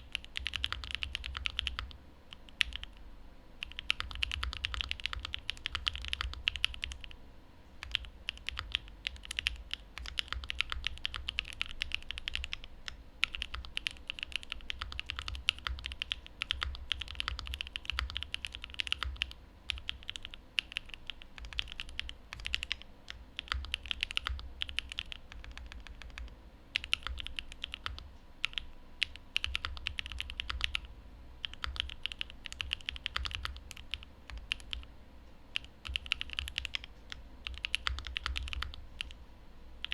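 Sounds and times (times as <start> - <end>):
fast typing on mechanical keyboard: 0.0 - 3.0, 3.6 - 7.2, 7.8 - 34.9, 35.5 - 39.2.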